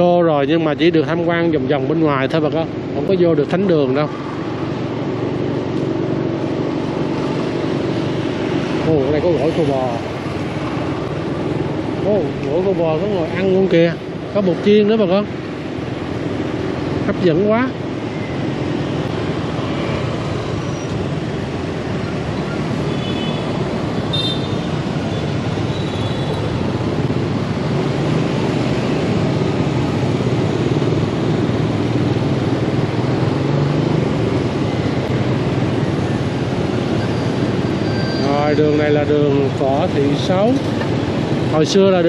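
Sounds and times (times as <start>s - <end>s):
street traffic noise: 0.0s - 42.0s.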